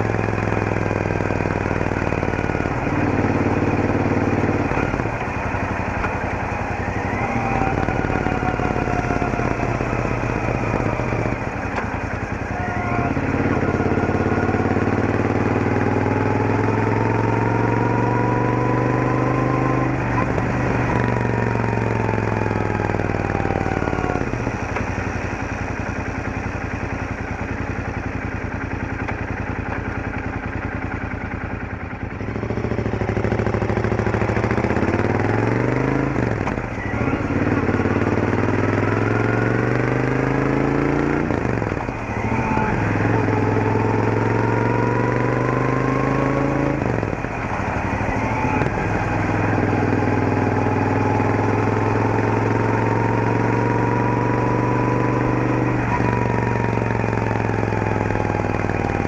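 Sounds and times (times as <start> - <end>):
high gear whine: 0.0 - 59.0
motorcycle engine accelerating: 0.0 - 59.0.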